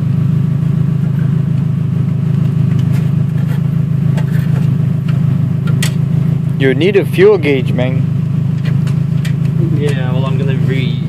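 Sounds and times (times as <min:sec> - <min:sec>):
race car engine idling: 0:00.0 - 0:11.0.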